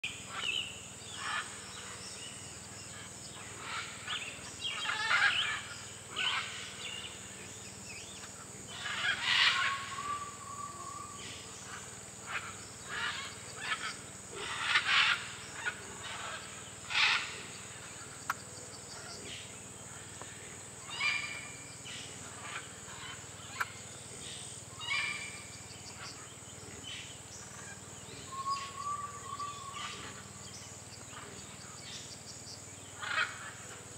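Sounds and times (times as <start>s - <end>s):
high insect drone: 0.0s - 33.9s.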